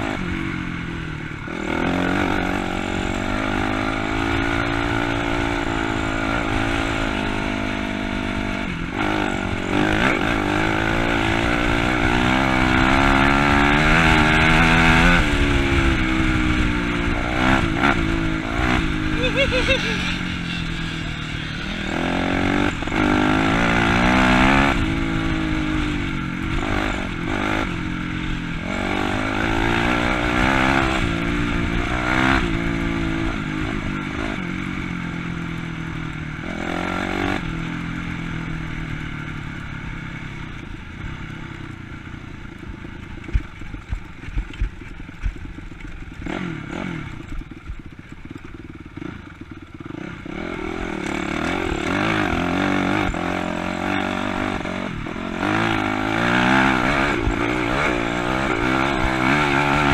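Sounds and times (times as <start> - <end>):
dirt bike engine revving: 0.0 - 35.4, 36.0 - 39.6, 42.5 - 59.9.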